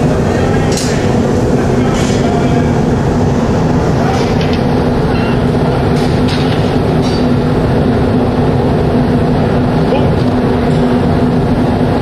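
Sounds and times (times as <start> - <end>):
gas furnace droning: 0.0 - 12.0.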